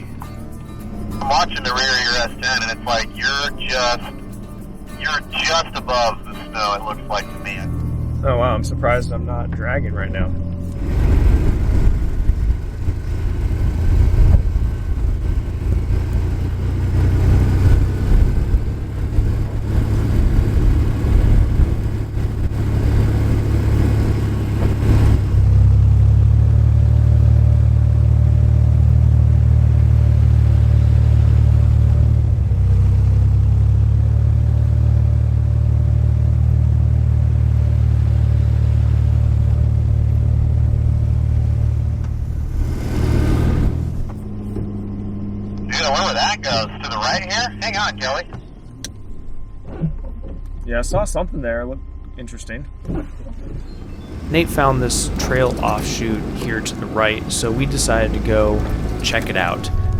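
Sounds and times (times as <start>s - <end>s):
low engine drone: 0.0s - 59.9s
truck rumbling through snow: 0.0s - 59.9s.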